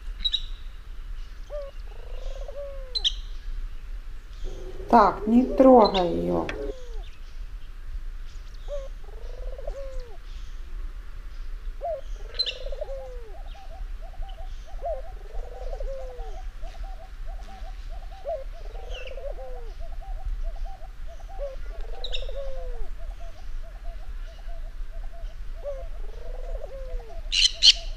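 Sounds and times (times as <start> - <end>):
dove cooing: 1.5 - 3.4, 4.3 - 7.1, 8.6 - 10.6, 11.8 - 27.9.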